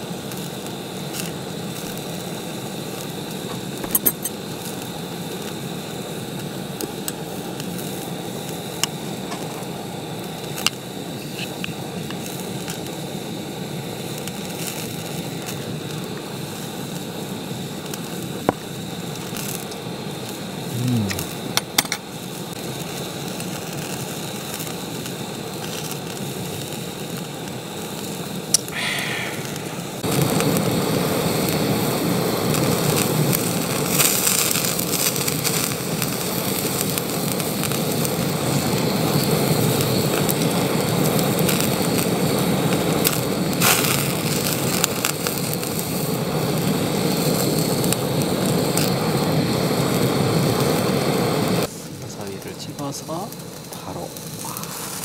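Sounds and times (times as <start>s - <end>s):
meat sizzling in a pan: 0.0s - 55.0s.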